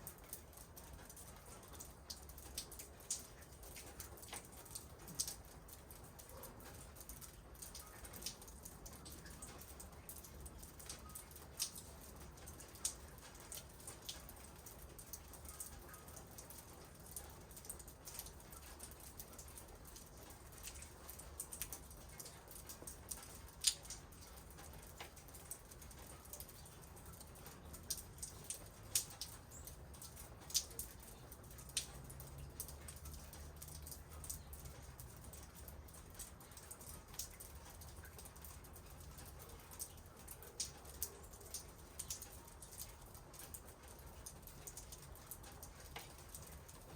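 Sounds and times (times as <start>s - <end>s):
raindrops tapping on hard surfaces: 0.0s - 46.9s.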